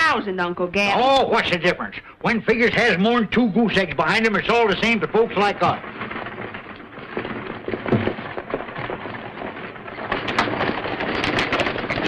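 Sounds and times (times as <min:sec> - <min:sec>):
horses' hoofbeats clattering: 0:01.0 - 0:12.0.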